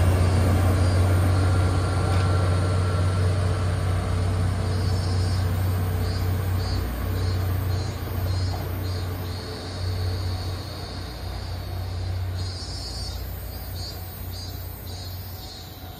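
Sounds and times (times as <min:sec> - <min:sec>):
diesel railcar engine droning: 0:00.0 - 0:15.9.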